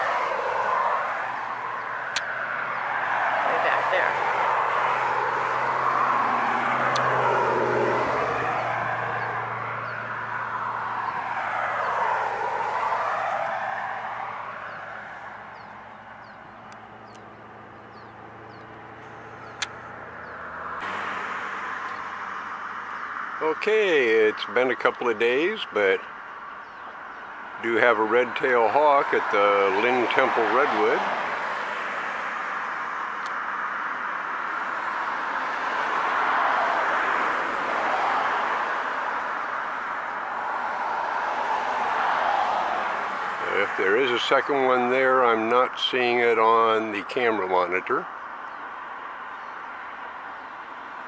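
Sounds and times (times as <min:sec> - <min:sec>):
passing road traffic: 0:00.0 - 0:51.0.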